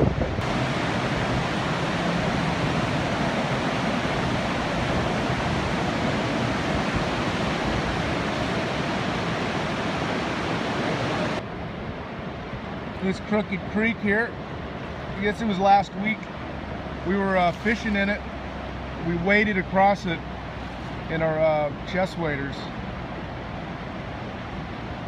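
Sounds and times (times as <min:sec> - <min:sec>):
floodwater rushing past piers: 0:00.0 - 0:25.0.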